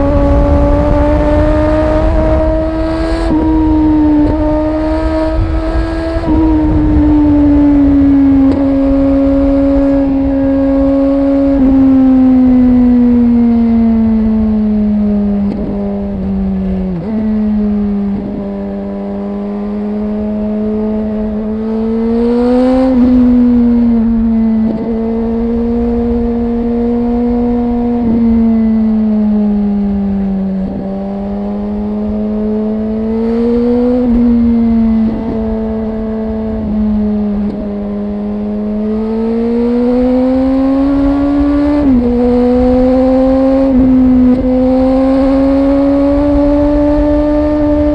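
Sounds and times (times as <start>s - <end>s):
low wind rumble: 0.0s - 47.9s
motorcycle engine and exhaust: 0.0s - 47.9s.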